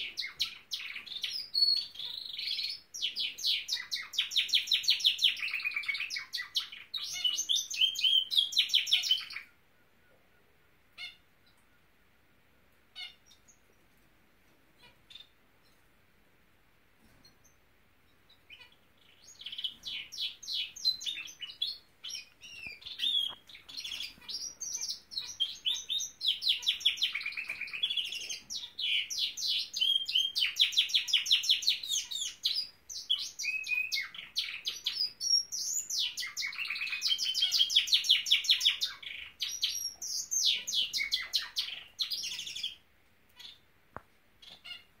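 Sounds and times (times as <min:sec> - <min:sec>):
canary singing trills: 0:00.0 - 0:12.0, 0:12.8 - 0:14.0, 0:14.7 - 0:15.8, 0:17.0 - 0:43.7, 0:44.4 - 0:45.0.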